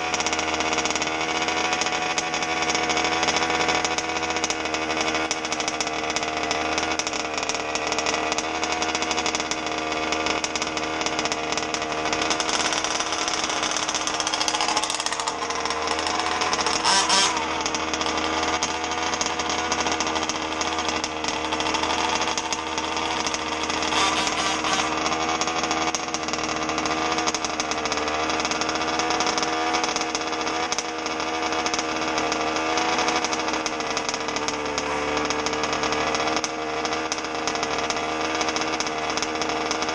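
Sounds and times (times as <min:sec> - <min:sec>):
two-stroke engine misfiring: 0:00.0 - 0:39.9.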